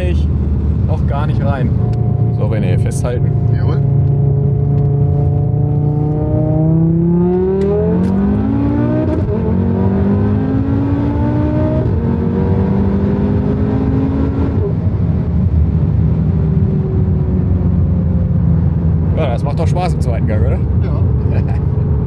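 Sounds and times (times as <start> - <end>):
car engine at full throttle: 0.0 - 22.0.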